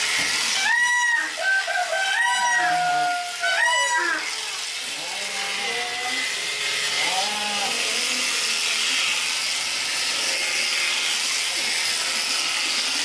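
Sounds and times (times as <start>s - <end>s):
electric shearing clippers running: 0.0s - 13.0s.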